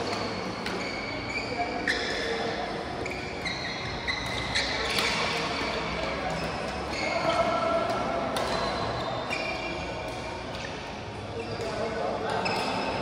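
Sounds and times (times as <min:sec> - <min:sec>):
shoes squeaking on floor: 0:00.0 - 0:13.0.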